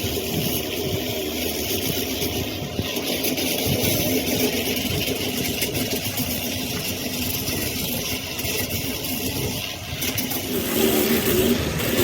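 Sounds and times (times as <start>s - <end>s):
motor engine idling: 0.0s - 12.0s.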